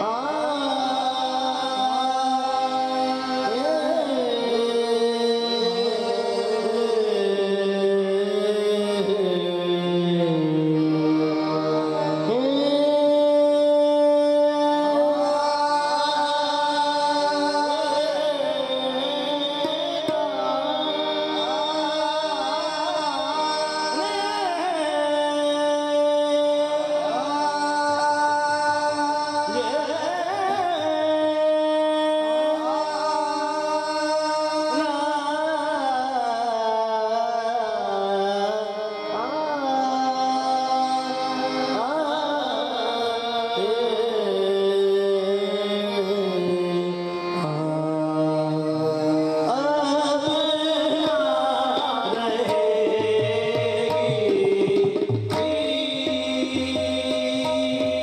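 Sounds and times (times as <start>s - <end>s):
harmonium accompaniment: 0.0s - 58.0s.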